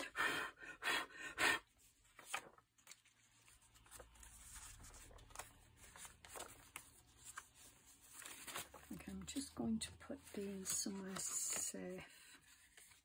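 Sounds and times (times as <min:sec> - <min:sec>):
paper rustling: 0:01.8 - 0:13.0.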